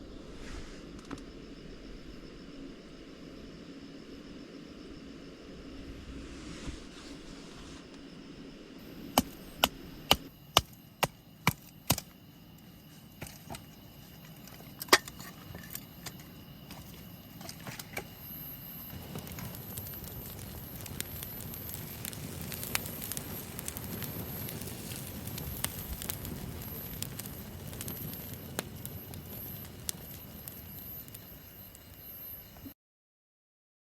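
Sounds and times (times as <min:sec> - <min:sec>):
faint steady high tone: 0:00.0 - 0:06.5, 0:08.0 - 0:32.8
low crackling hiss: 0:00.0 - 0:32.7.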